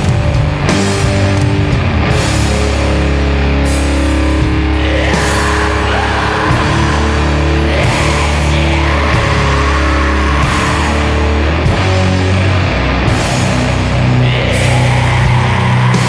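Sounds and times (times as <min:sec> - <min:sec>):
distorted guitars and bass: 0:00.0 - 0:16.0.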